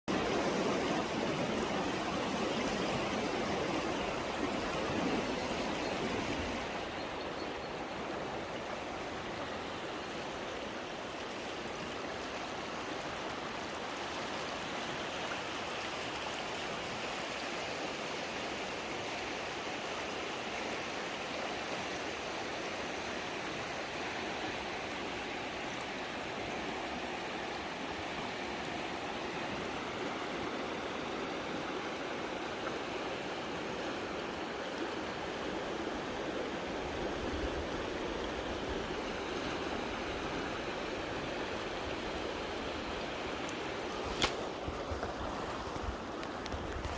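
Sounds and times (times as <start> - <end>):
stream water rushing: 0.1 - 46.9.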